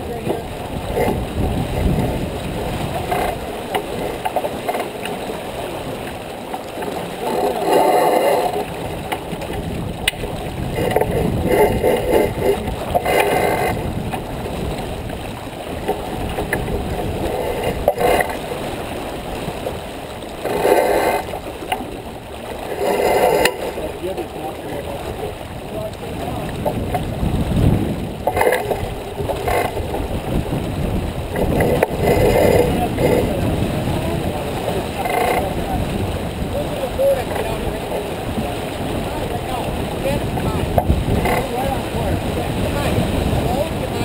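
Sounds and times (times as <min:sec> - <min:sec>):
wind and water rushing: 0:00.0 - 0:44.0.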